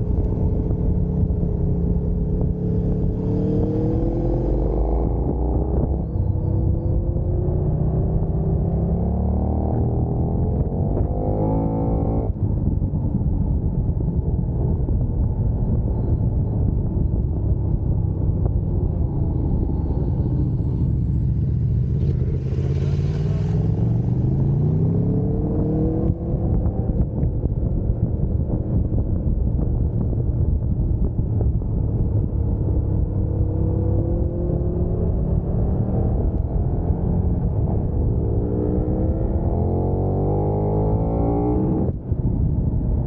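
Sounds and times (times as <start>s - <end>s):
motorcycle engine accelerating: 0.0s - 43.0s
wind noise rush: 0.0s - 43.0s.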